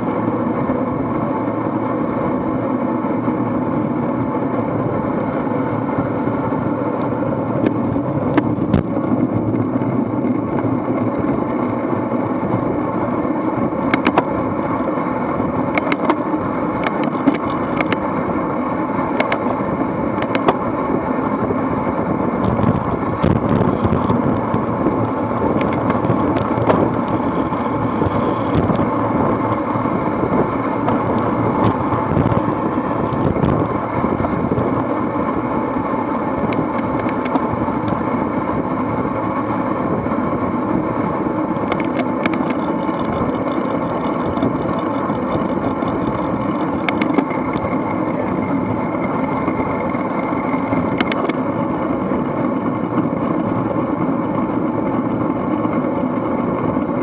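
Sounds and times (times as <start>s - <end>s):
tyres on asphalt: 0.0s - 57.0s
wind buffeting microphone: 3.4s - 57.0s.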